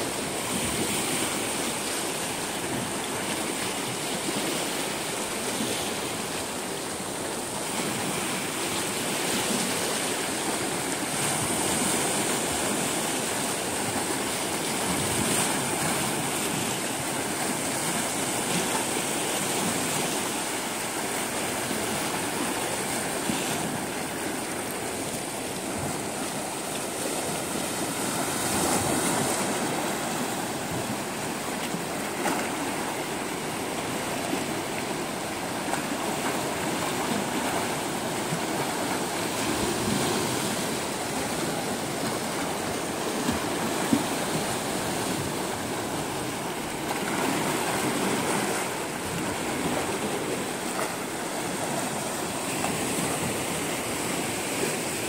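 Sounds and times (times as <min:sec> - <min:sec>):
waves lapping against rocks: 0:00.0 - 0:55.0.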